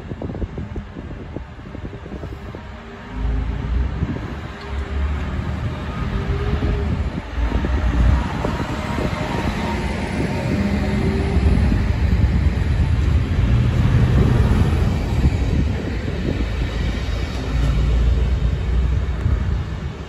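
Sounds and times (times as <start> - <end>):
low diesel rumble: 0.0 - 20.0
train wheels on rails: 2.2 - 19.9.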